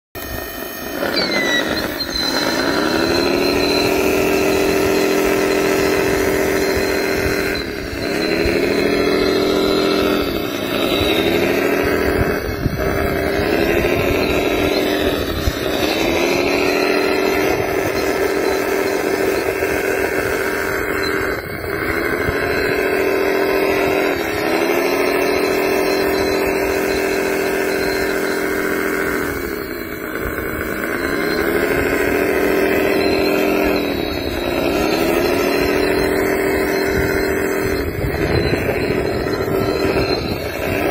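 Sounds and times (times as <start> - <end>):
toy loader motor whining: 0.2 - 40.9.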